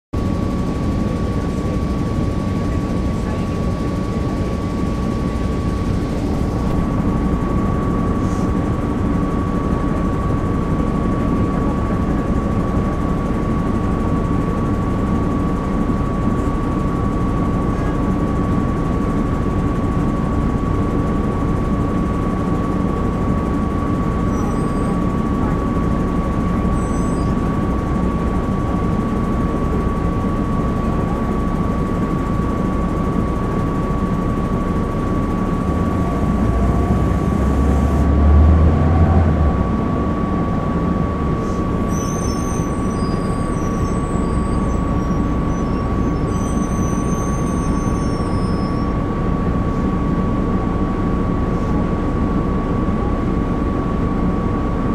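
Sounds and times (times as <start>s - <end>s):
bus diesel engine running: 0.2s - 54.9s
thin steady whine: 0.2s - 54.9s.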